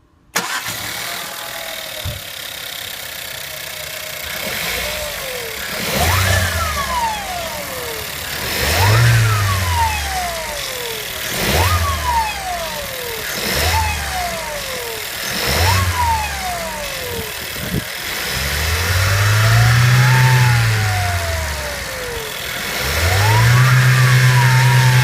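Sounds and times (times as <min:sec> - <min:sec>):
engine revving: 0:00.4 - 0:25.0
whistle rising with engine revs: 0:00.4 - 0:25.0.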